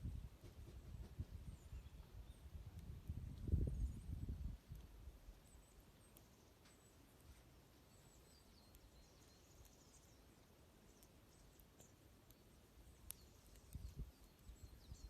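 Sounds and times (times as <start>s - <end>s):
crackling wood fire: 0.0s - 15.0s
songbirds chirping: 0.0s - 15.0s.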